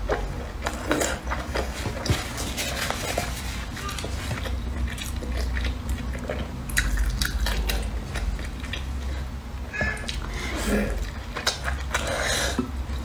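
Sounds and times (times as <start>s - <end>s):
chewing and wet mouth sounds: 0.0s - 13.0s
low steady hum: 0.0s - 13.0s.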